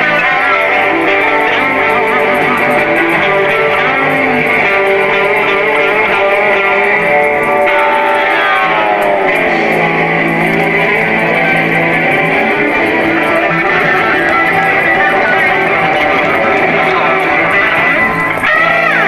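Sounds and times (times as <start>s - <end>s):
live band playing: 0.0s - 19.0s
strummed guitars: 0.0s - 19.0s.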